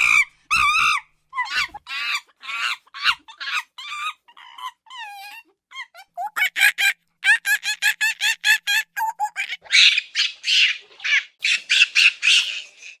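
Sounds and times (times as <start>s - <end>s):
monkey chattering and screeching: 0.0s - 13.0s.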